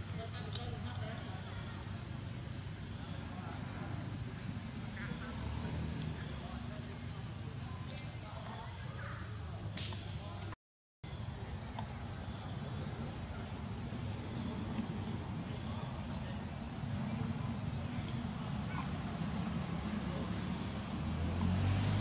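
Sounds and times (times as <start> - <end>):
insects droning in chorus: 0.0 - 10.5, 11.1 - 22.0.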